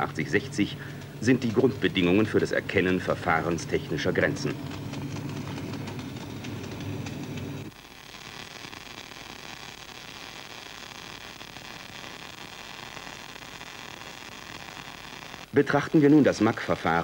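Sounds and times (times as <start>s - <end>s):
faint hum: 0.0s - 17.0s
steady hiss: 0.0s - 17.0s
welding arc buzzing and crackling: 0.0s - 17.0s.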